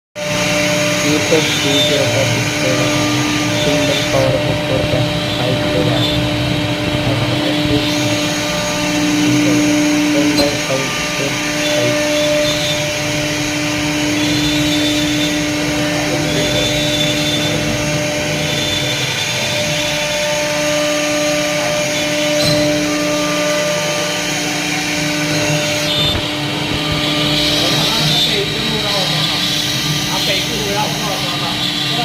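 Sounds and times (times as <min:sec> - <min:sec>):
spindle motor whining: 0:00.2 - 0:32.0.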